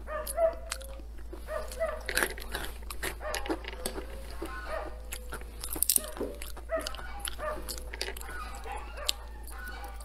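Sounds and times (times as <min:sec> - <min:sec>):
nut shells cracking: 0:01.7 - 0:09.8.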